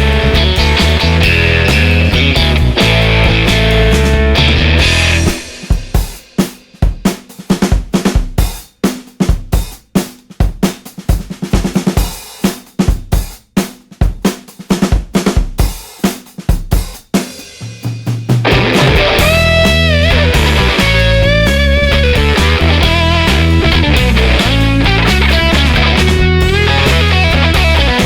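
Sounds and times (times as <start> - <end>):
snare drum: 0.0 - 28.0.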